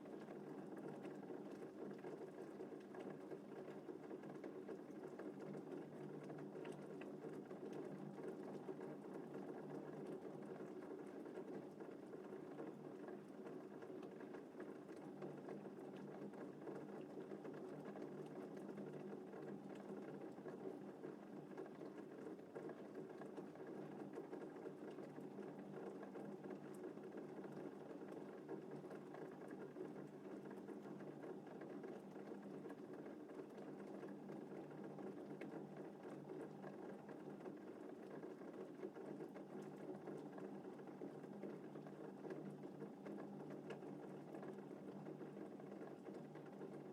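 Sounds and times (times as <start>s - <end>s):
gentle rain patter: 0.0s - 46.9s.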